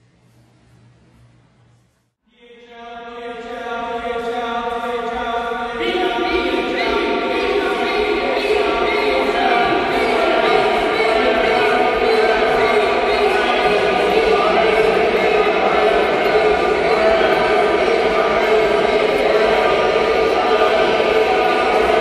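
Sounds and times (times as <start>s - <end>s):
faint hum: 0.0s - 22.0s
echoing voices chanting syllables: 2.3s - 22.0s.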